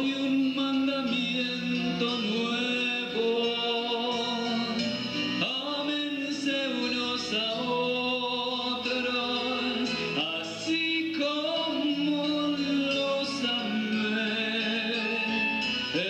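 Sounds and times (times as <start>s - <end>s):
man singing religious song: 0.0s - 16.0s
musical accompaniment: 0.0s - 16.0s.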